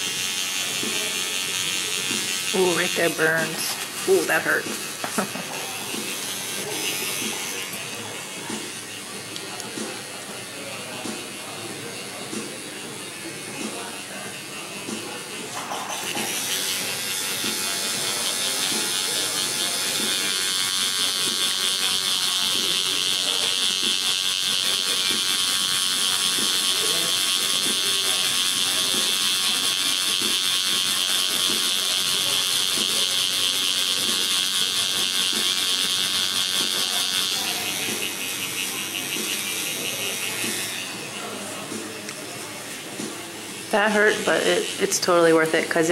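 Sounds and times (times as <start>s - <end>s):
tattoo machine buzzing: 0.0s - 45.9s.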